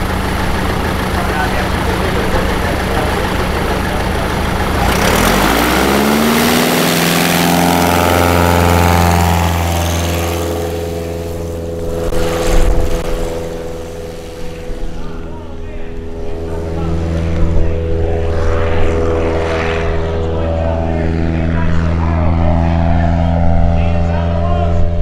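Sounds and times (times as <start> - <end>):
light plane engine and propeller: 0.0 - 25.0.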